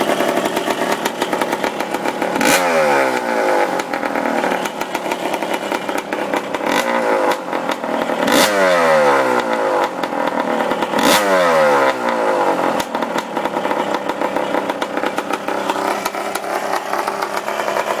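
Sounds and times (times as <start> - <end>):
engine throttle blips: 0.0 - 18.0
motocross engine idling: 0.0 - 18.0.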